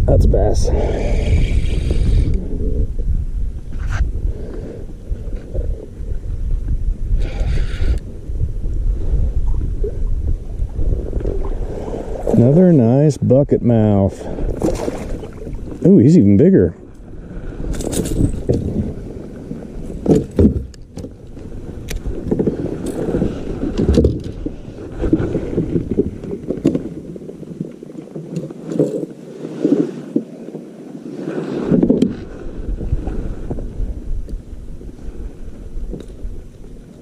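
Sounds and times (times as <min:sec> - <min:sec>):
wind buffeting microphone: 0:00.0 - 0:27.8, 0:31.5 - 0:37.0
water splashing against kayak: 0:03.7 - 0:12.9, 0:14.1 - 0:16.0, 0:17.0 - 0:37.0.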